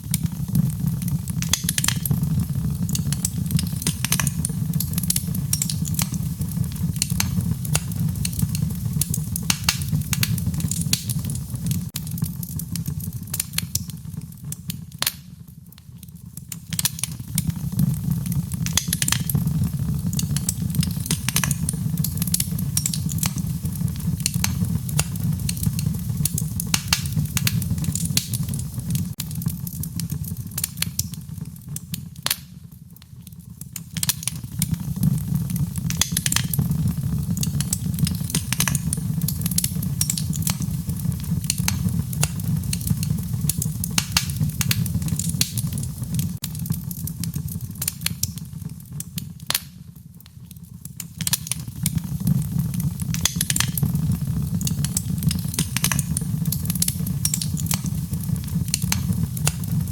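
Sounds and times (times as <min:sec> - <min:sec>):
wood fire crackling and rumbling: 0:00.0 - 0:59.9.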